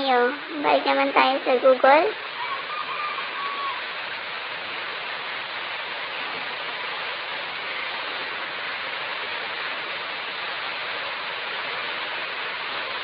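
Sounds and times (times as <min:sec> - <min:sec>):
rushing background hiss: 0:00.0 - 0:13.0.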